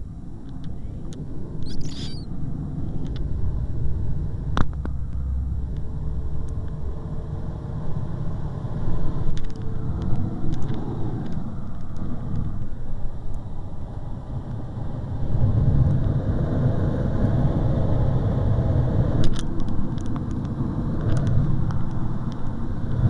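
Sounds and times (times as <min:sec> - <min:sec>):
cockpit wind noise: 0:00.0 - 0:23.0.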